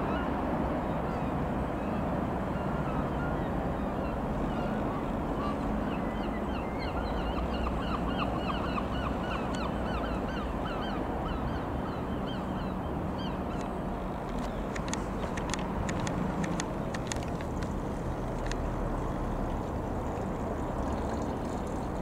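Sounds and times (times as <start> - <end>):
light aircraft engine drone: 0.0 - 22.0.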